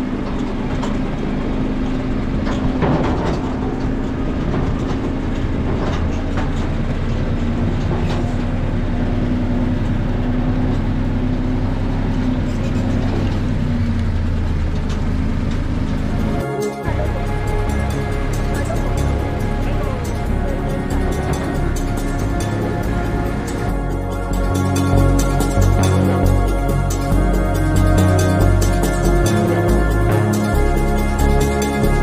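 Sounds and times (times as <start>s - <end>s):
tractor engine droning: 0.0s - 32.0s.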